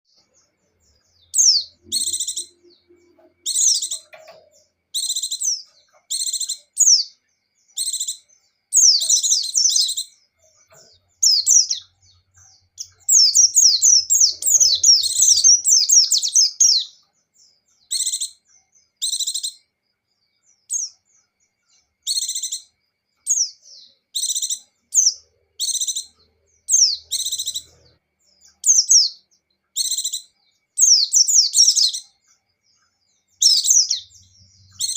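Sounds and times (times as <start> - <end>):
birds chirping song: 0.0 - 34.9.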